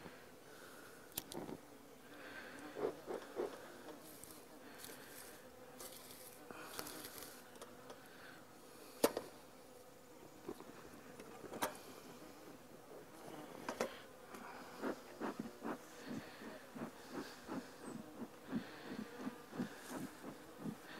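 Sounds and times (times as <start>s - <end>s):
bees buzzing: 1.6s - 20.9s.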